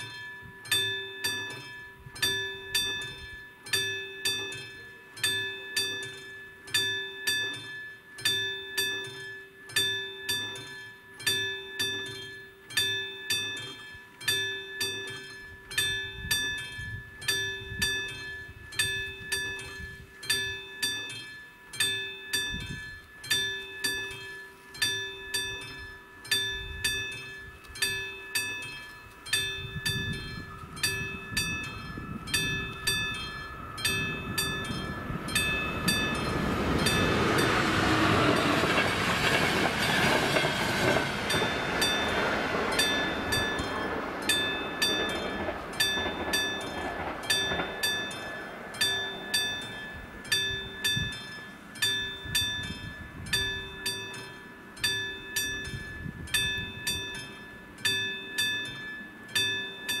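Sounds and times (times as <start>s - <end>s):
train passing rumble: 0.0s - 11.2s, 22.3s - 60.0s
level crossing warning bell: 0.0s - 60.0s.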